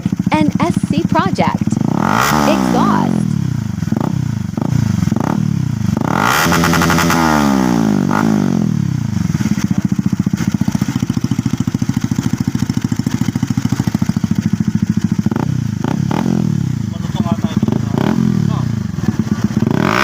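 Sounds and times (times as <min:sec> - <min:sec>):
motorcycle engine revving and idling: 0:00.0 - 0:20.0.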